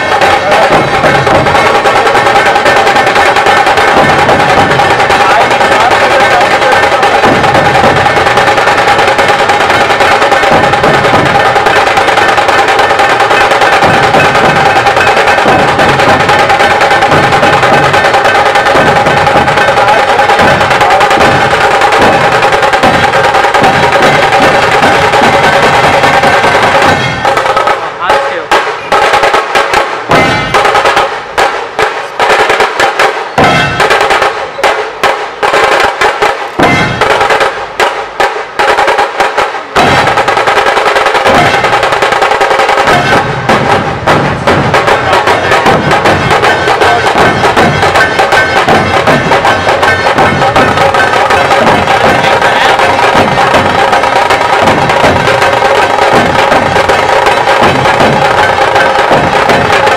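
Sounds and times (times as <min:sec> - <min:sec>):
large drums beaten with sticks: 0:00.0 - 0:59.9
small drums rattling: 0:00.0 - 0:59.9.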